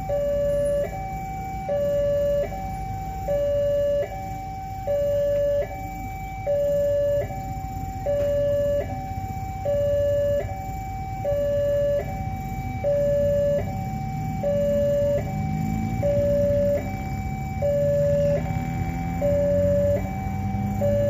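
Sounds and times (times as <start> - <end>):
two-tone level crossing alarm: 0.0 - 21.0.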